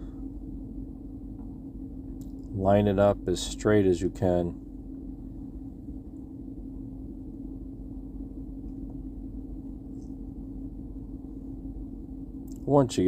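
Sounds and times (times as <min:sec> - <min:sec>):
low held tone: 0:00.0 - 0:13.0
low rumble: 0:00.0 - 0:13.0.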